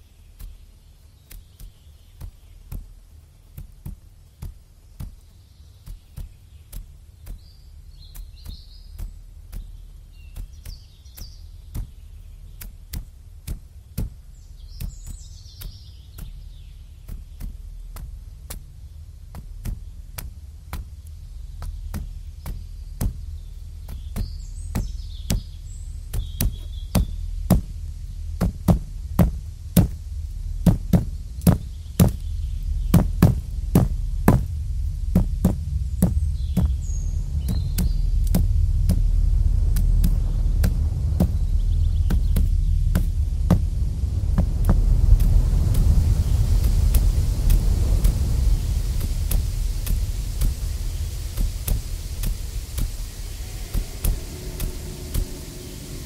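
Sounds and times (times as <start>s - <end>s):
low rumble: 6.1s - 56.0s.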